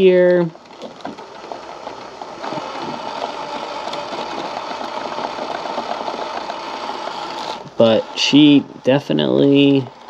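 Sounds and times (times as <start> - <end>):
small electric motor whirring: 0.0 - 10.0.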